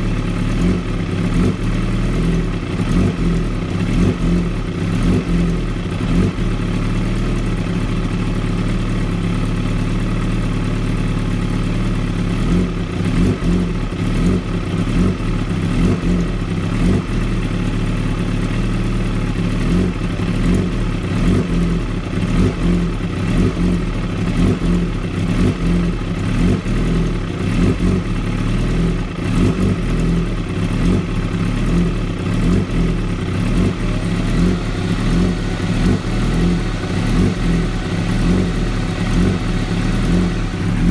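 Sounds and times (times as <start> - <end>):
motorcycle engine idling roughly: 0.0 - 40.9.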